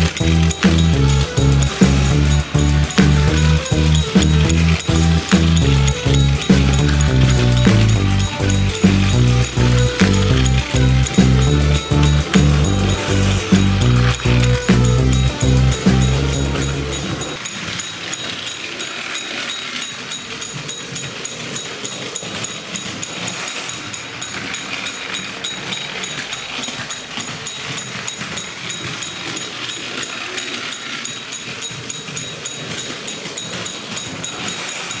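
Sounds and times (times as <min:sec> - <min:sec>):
small electric motor whirring: 0:00.0 - 0:35.0
toy train wheels clicking on track: 0:00.0 - 0:35.0.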